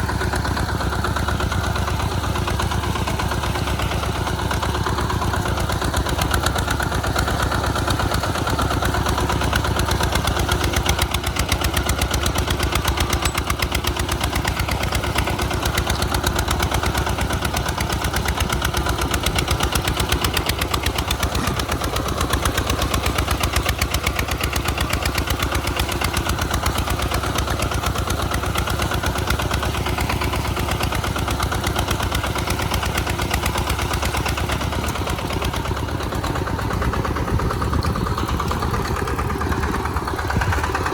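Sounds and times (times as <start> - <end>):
tractor diesel engine chugging: 0.0 - 40.9.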